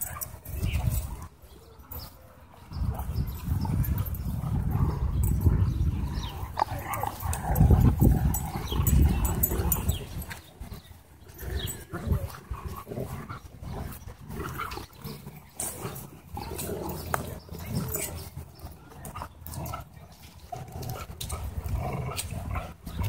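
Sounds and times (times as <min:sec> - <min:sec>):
dogs growling and scuffling: 0:00.0 - 0:23.0.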